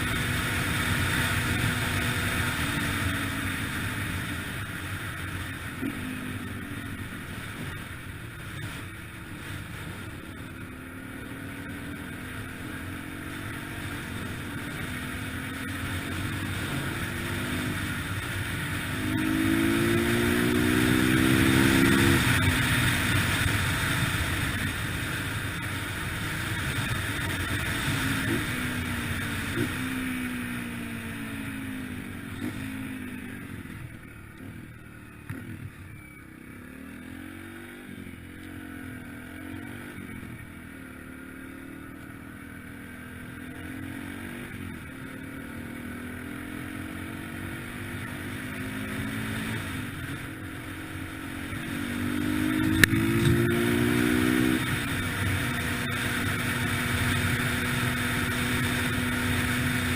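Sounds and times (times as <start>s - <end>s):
dirt bike engine revving: 8.6s - 33.8s, 36.6s - 59.9s.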